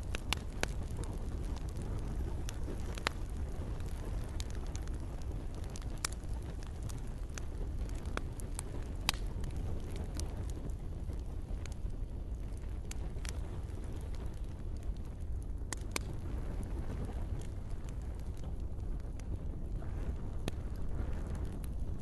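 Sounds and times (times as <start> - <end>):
campfire crackling: 0.0 - 22.0
soft rain hiss: 0.0 - 22.0.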